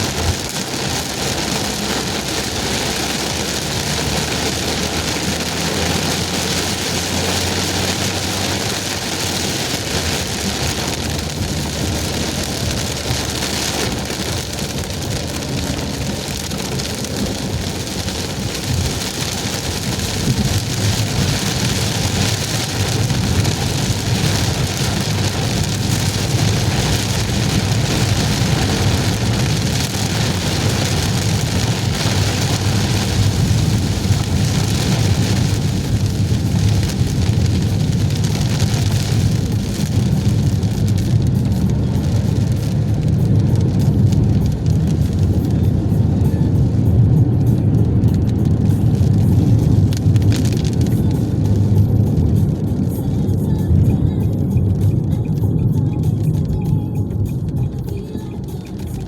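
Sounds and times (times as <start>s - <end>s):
heavy rain on a car: 0.0s - 59.0s
low rumble: 0.0s - 59.0s
tyre and road noise: 0.0s - 59.0s.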